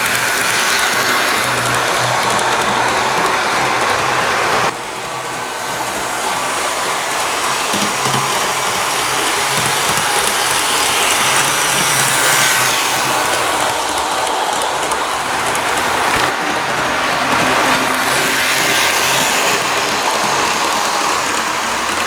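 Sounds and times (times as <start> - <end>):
model train motor whirring: 0.0 - 22.0.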